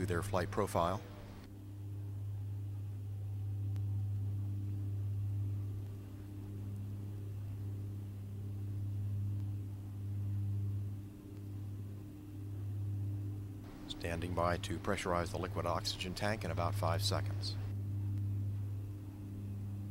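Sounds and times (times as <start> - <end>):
low hum with overtones: 0.0 - 19.9.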